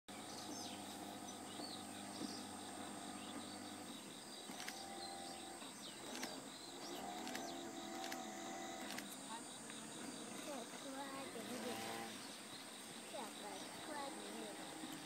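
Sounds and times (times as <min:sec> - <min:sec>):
birds chirping: 0:00.1 - 0:15.0
pulsing insect trill: 0:00.1 - 0:15.0.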